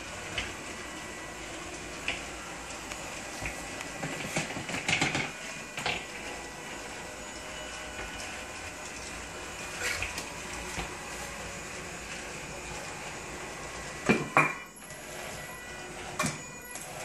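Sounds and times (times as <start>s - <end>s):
motor whirring with high whine: 0.0s - 17.0s.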